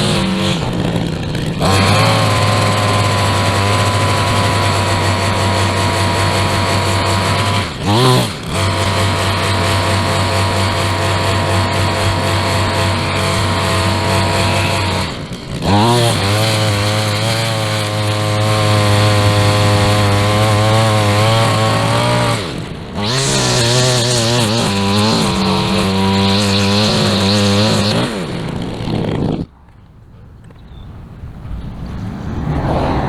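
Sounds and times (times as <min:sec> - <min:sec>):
small petrol engine revving: 0:00.0 - 0:29.6.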